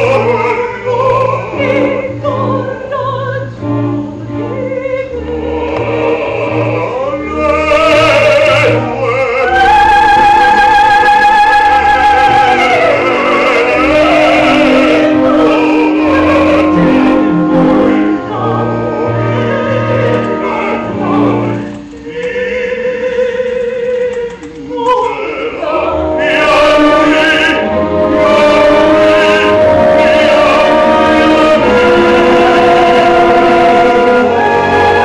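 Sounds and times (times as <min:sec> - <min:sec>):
instrumental accompaniment: 0:00.0 - 0:22.5, 0:24.1 - 0:35.0.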